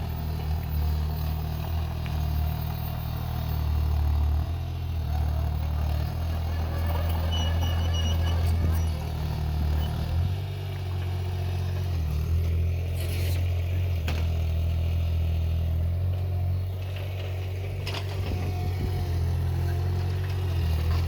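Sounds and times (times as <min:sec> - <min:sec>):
excavator engine rumbling: 0:00.0 - 0:21.0.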